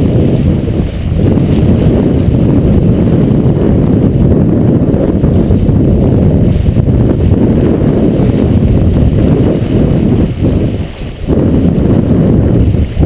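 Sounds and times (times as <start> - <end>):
water rushing past hull: 0.0 - 13.0
wind buffeting microphone: 0.0 - 13.0.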